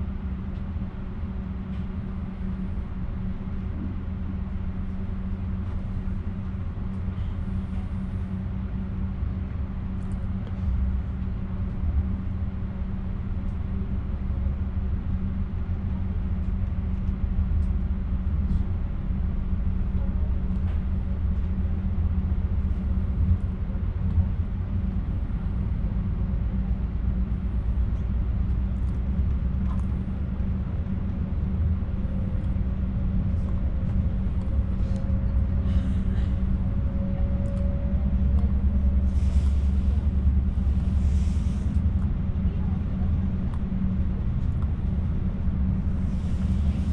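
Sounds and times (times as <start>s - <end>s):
train rumbling on track: 0.0s - 46.9s.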